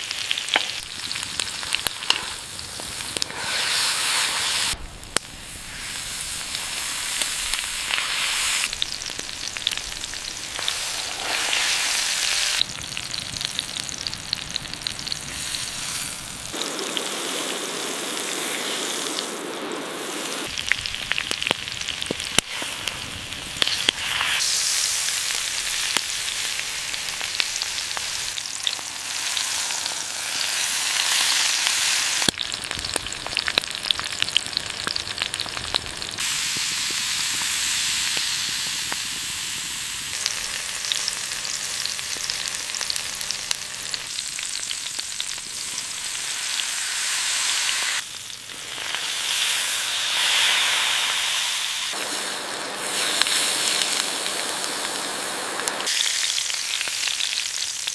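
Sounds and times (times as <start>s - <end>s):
steak sizzling on hot stone: 0.0s - 19.1s, 20.4s - 57.9s.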